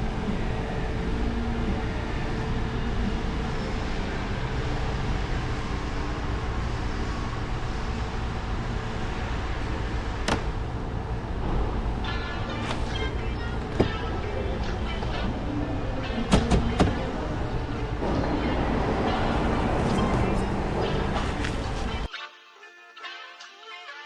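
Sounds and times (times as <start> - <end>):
car engine and road rumble: 0.0 - 22.1.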